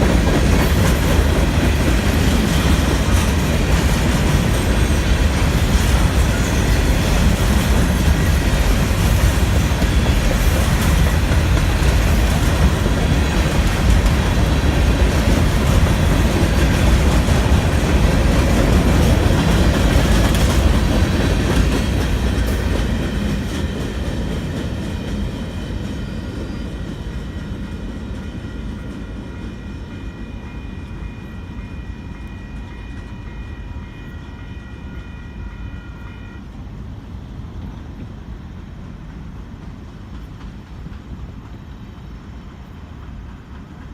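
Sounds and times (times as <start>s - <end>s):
freight train rolling on rails: 0.0s - 43.9s.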